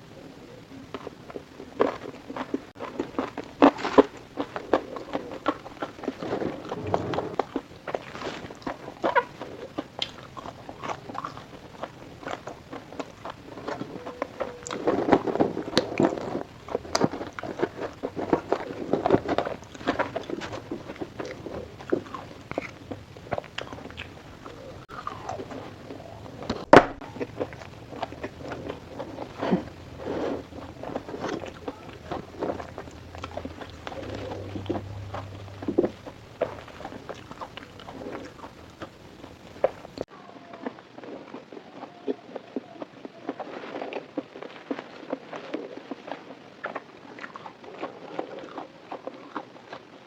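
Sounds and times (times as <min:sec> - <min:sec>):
wet chewing: 0:00.5 - 0:50.0
person crunching fried food: 0:01.0 - 0:40.0, 0:40.8 - 0:50.0.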